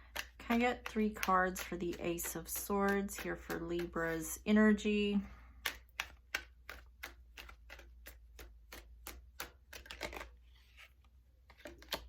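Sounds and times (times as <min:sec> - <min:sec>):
cards being shuffled: 0:00.0 - 0:04.4, 0:05.6 - 0:12.0
rustling of cards: 0:00.0 - 0:04.5, 0:05.2 - 0:12.0.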